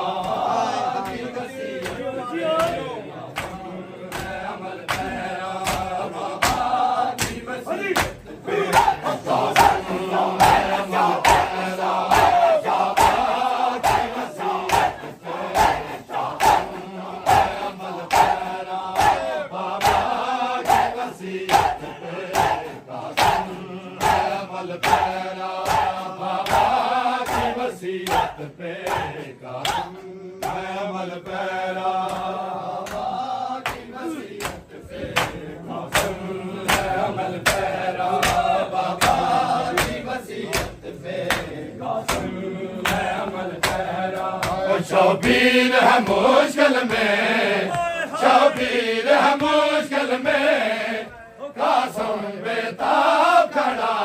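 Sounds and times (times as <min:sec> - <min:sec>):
men chanting in unison: 0:00.0 - 0:54.0
hands slapping chests: 0:00.1 - 0:31.4, 0:32.0 - 0:47.0.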